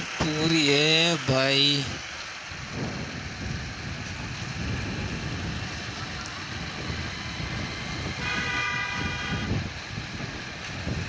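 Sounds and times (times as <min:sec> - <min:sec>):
motorcycle engine and road rumble: 0:00.0 - 0:11.0
wind rushing over microphone: 0:01.8 - 0:11.0.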